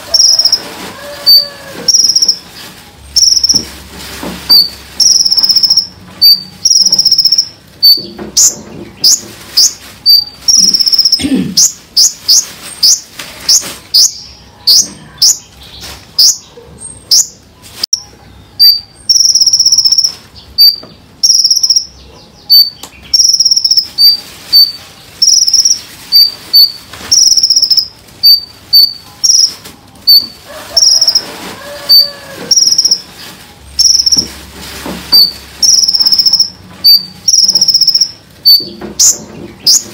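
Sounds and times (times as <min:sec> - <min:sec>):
songbirds singing high notes: 0:00.0 - 0:03.7, 0:04.5 - 0:34.3.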